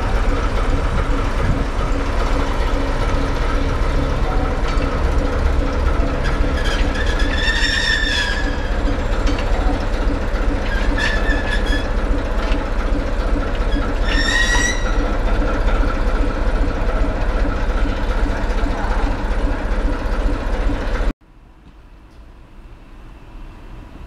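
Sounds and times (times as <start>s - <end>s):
train wheel squeals: 0.0s - 19.6s
diesel locomotive engine pulsing: 0.0s - 24.0s.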